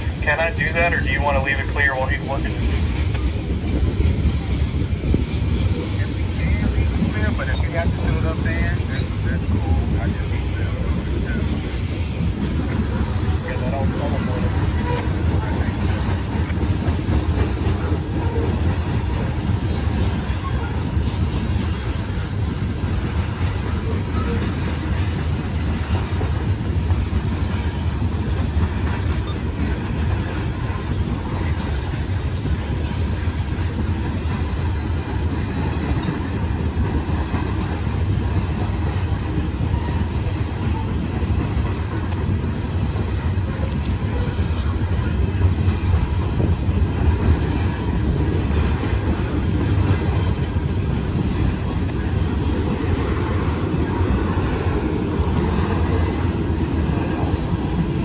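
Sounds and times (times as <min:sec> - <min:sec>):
freight train rumbling on rails: 0:00.0 - 0:58.0.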